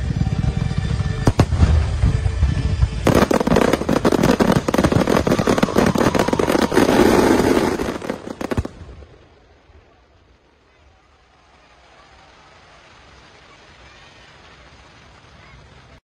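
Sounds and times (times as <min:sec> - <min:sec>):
fireworks bursting: 0:00.0 - 0:16.0
fireworks crackling: 0:00.0 - 0:16.0.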